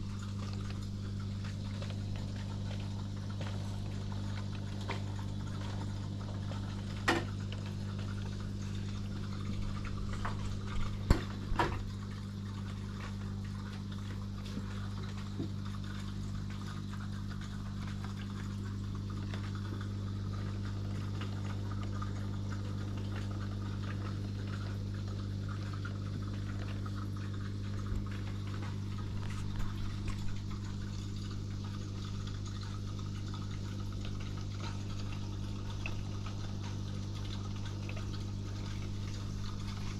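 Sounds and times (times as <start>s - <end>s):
aquarium pump humming: 0.0s - 39.9s
water bubbling and trickling: 0.0s - 39.9s.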